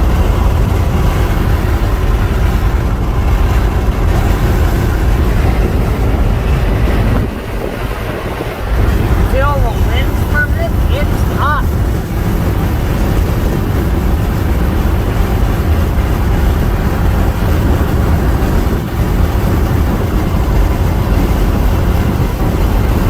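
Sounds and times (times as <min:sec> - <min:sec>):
road and wind noise in car: 0:00.0 - 0:23.0.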